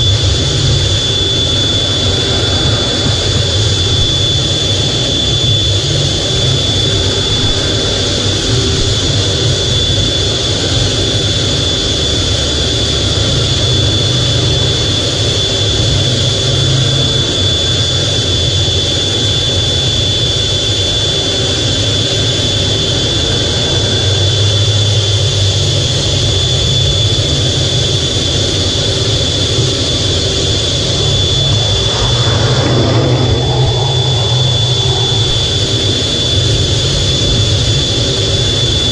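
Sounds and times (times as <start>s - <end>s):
high-pitched engine whine: 0.0s - 38.9s
jet engine rumble: 0.0s - 38.9s.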